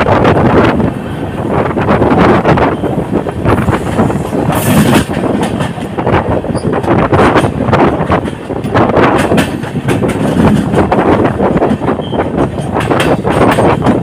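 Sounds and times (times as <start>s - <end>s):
clattering over track: 0.0s - 14.0s
train wheels rumbling on rails: 0.0s - 14.0s.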